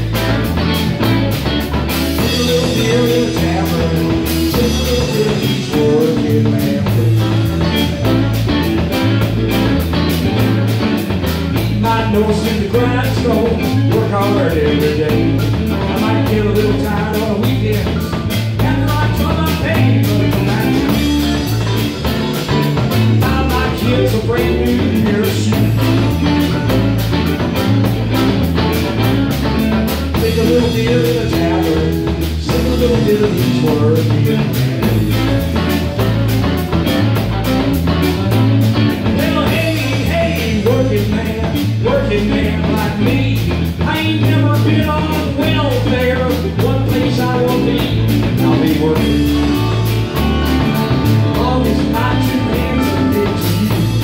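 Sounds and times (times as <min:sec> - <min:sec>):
drum kit beat: 0:00.0 - 0:54.0
electric bass line: 0:00.0 - 0:54.0
electric guitars: 0:00.0 - 0:54.0.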